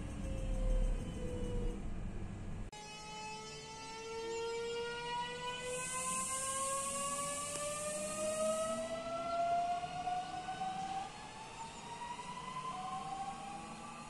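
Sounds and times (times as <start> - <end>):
electric train motor whine: 0.0 - 14.0.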